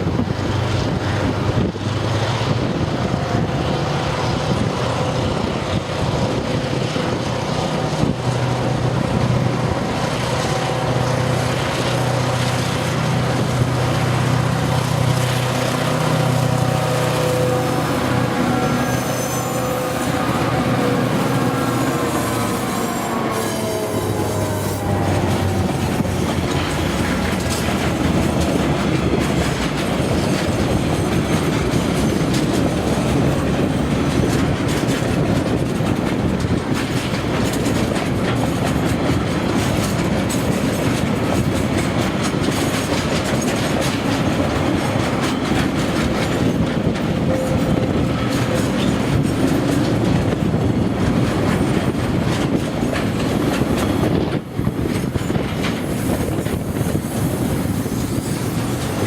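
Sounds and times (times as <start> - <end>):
freight train rolling past: 0.0 - 59.0
wheels clacking over rail joints: 0.0 - 59.0.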